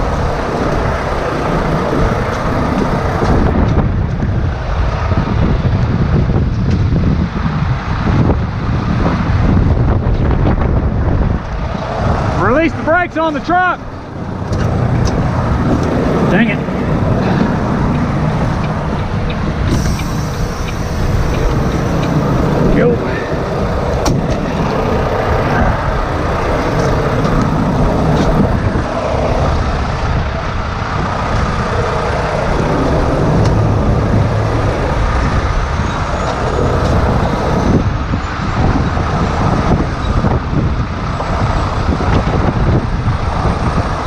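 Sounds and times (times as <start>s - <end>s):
diesel truck engine running: 0.0s - 4.9s, 11.6s - 44.0s
wind rumbling on microphone: 0.0s - 44.0s.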